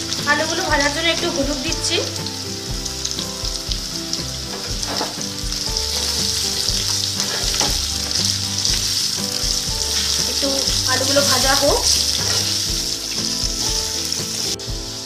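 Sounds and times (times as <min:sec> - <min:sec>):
potatoes sizzling in oil: 0:00.0 - 0:15.0
wooden spatula stirring: 0:00.0 - 0:15.0.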